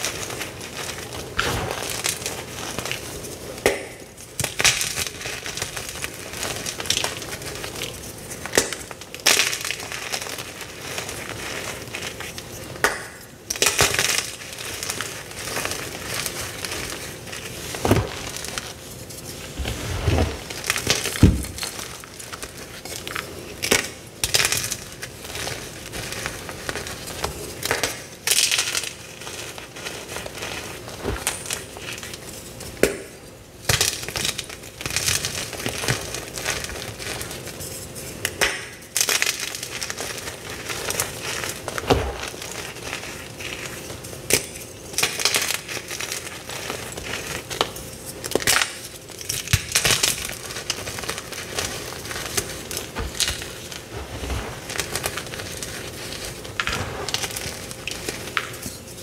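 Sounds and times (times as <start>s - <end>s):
chalk crunching and crackling: 0.0s - 33.1s, 34.0s - 59.0s.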